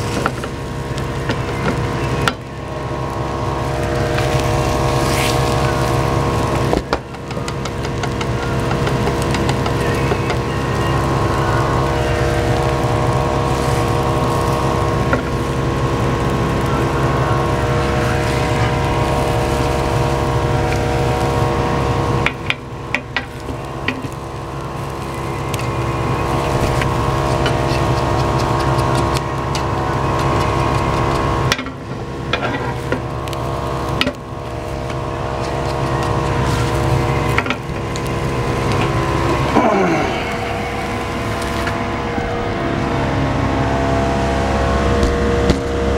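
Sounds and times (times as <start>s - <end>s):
kitchen ventilation fan whirring: 0.0s - 45.9s.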